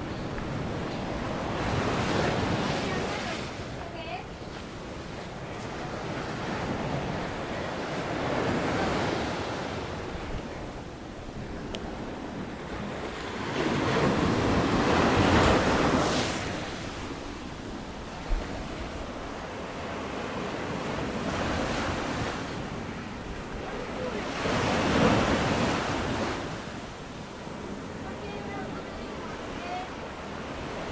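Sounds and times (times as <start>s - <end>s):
sea waves breaking on shore: 0.0s - 30.9s.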